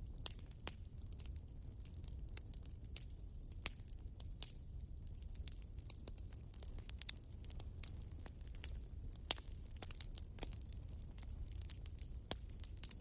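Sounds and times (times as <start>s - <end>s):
logs crackling and popping: 0.0s - 13.0s
low fire rumble: 0.0s - 13.0s.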